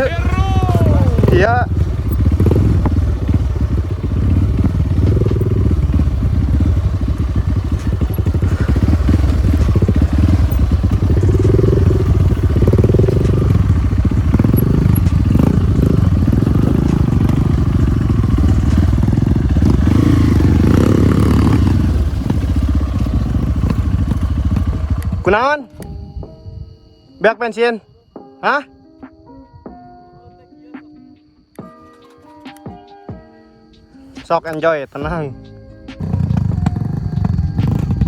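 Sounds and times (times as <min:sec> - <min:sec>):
motorcycle engine riding: 0:00.0 - 0:26.6, 0:34.1 - 0:38.0.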